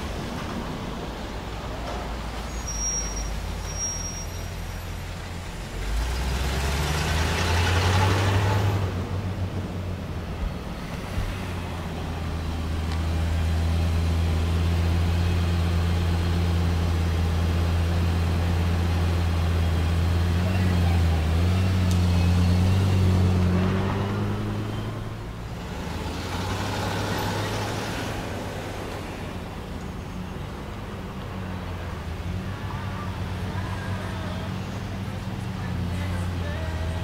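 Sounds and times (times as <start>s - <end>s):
traffic noise: 0.0s - 37.0s.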